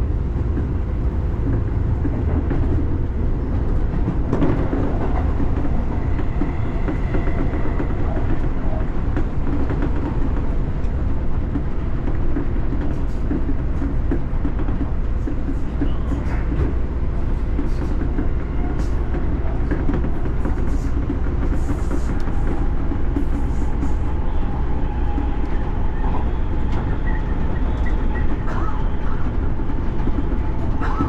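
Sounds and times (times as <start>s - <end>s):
electric train rumble and rail noise: 0.0s - 31.0s.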